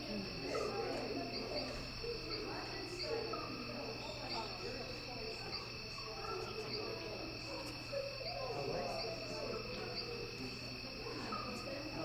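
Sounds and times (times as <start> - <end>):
distant voices murmuring: 0.0 - 12.0.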